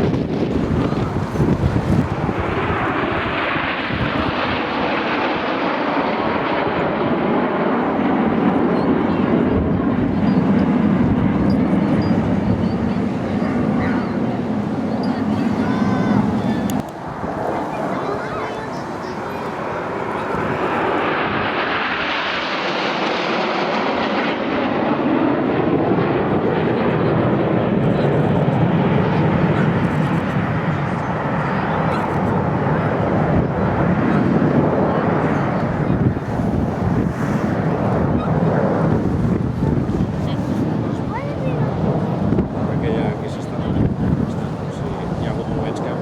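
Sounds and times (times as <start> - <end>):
jets flying past: 0.0 - 46.0.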